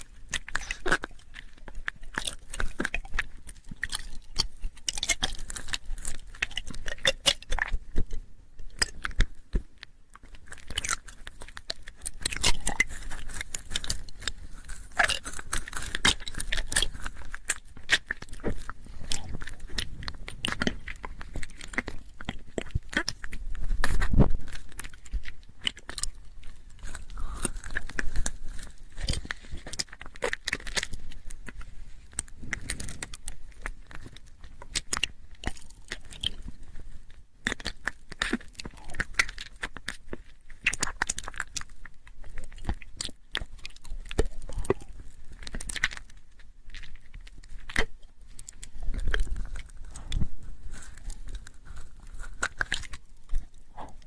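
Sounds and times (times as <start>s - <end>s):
wet lip and tongue clicks: 0.0s - 54.0s.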